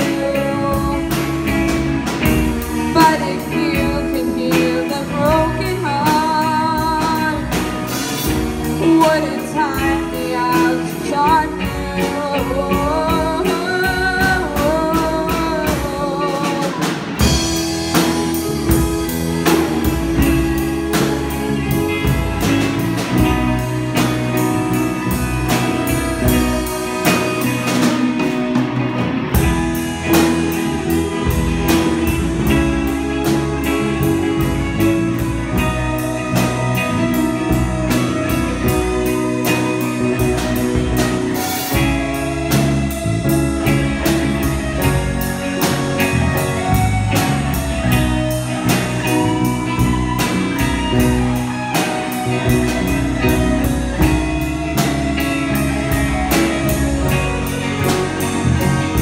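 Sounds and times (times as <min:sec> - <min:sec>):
rock band playing ballad: 0:00.0 - 0:59.0.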